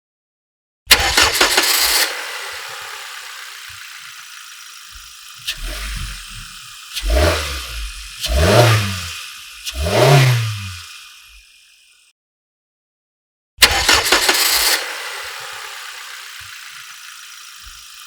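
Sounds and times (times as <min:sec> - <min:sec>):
car engine starting: 0:00.9 - 0:11.8, 0:13.6 - 0:18.0
engine revving: 0:00.9 - 0:11.8, 0:13.6 - 0:18.0.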